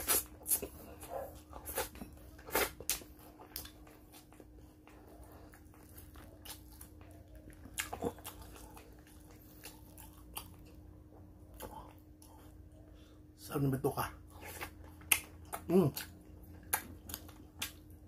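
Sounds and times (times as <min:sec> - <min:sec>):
man chewing and smacking: 0:00.0 - 0:13.0, 0:14.2 - 0:18.0.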